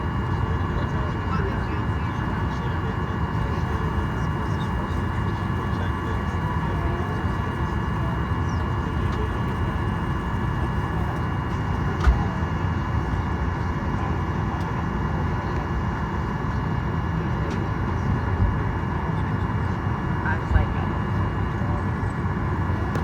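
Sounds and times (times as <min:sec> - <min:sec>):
aircraft cabin rumble: 0:00.0 - 0:16.7, 0:17.3 - 0:23.0
faint steady whine: 0:00.0 - 0:23.0.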